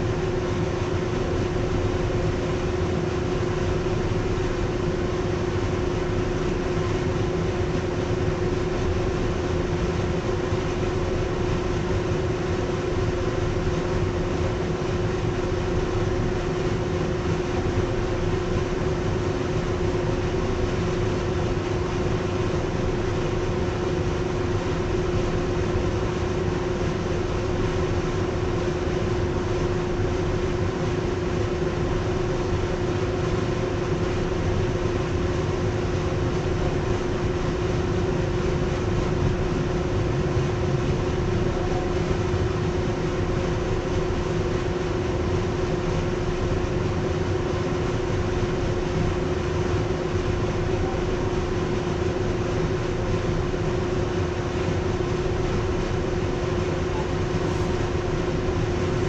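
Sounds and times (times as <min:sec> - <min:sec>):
constant steady hum: 0:00.0 - 0:59.0.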